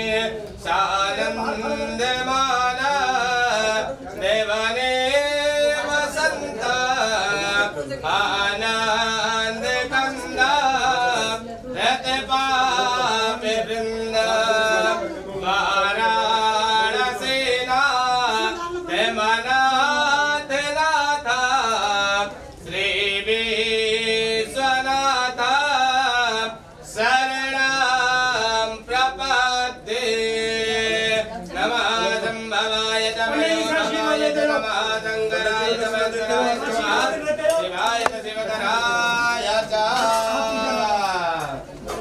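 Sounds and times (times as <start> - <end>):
man singing a devotional hymn: 0.0 - 41.7.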